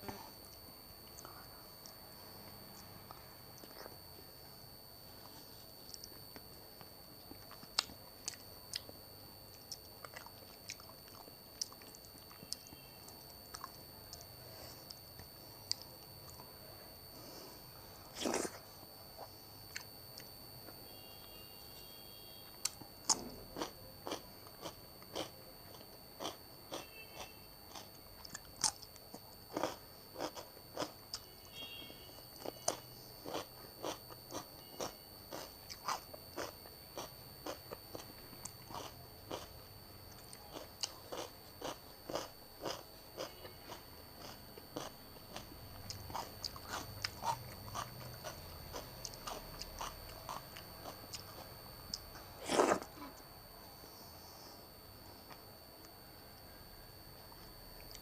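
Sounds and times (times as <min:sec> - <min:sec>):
crunching and chewing food: 0:00.1 - 0:53.4, 0:54.8 - 0:58.0.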